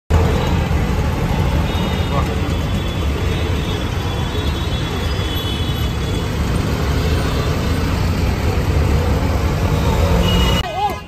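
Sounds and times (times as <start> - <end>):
street traffic noise: 0.1 - 11.0.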